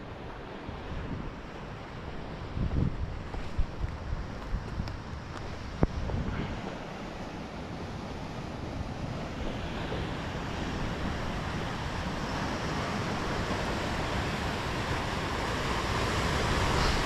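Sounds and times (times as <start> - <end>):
sea surf against rocks: 0.0 - 17.0
wind on microphone: 0.0 - 17.0.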